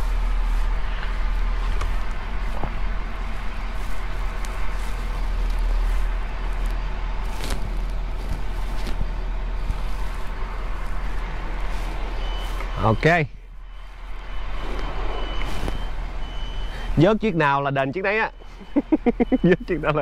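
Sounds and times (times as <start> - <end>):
truck engine running low: 0.0 - 20.0.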